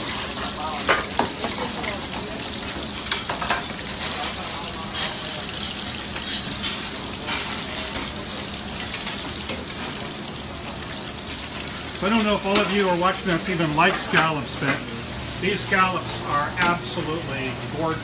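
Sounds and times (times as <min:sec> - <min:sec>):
spaghetti sizzling in a pan: 0:00.0 - 0:18.0.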